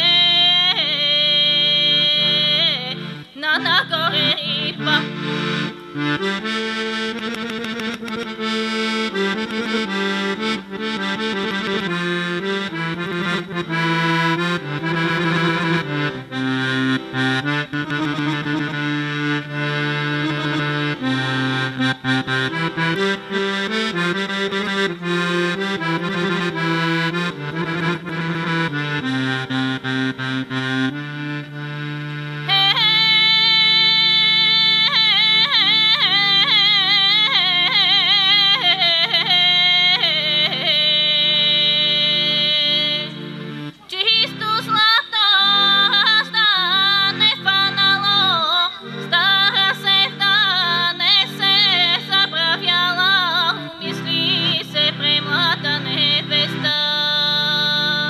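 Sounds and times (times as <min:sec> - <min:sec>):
accordion folk tune: 0:00.0 - 0:58.0.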